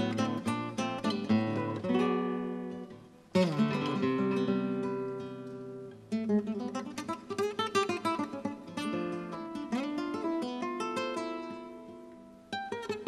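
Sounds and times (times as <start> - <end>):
acoustic guitars playing: 0.0 - 13.0.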